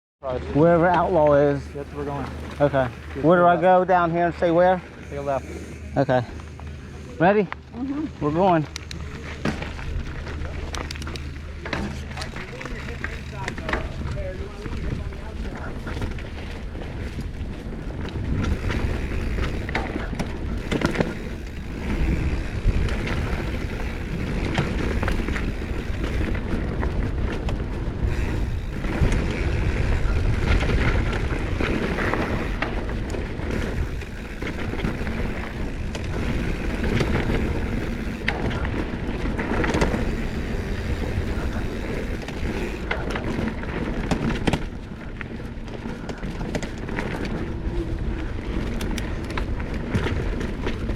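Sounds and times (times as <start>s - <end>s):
tyres rumbling over dirt: 0.2s - 50.9s
bike clattering over bumps: 8.3s - 50.9s.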